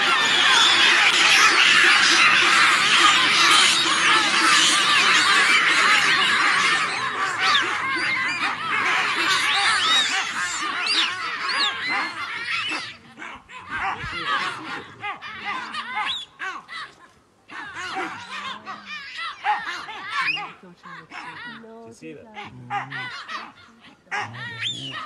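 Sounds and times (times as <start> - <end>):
baboons screaming and barking: 0.0 - 25.0.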